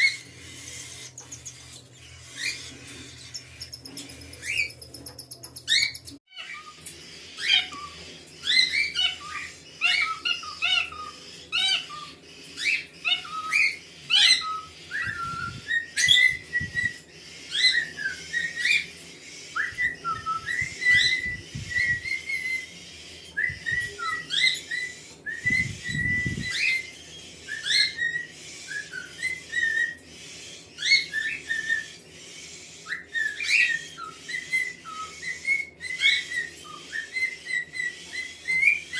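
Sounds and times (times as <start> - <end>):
cockatiels chirping and whistling: 0.0 - 38.9.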